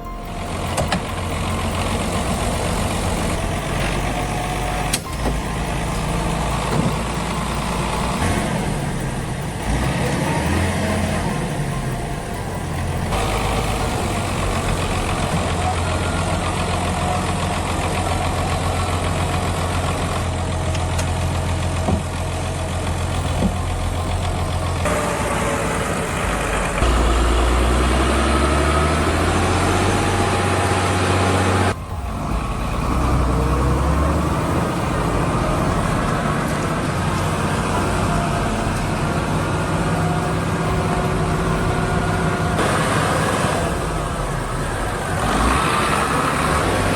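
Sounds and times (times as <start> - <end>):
tractor diesel engines running: 0.0 - 46.9.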